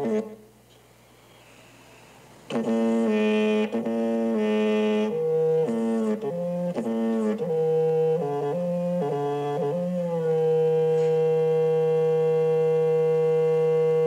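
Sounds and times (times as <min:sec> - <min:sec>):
wind instrument holding notes: 0:00.0 - 0:00.5, 0:02.5 - 0:14.0.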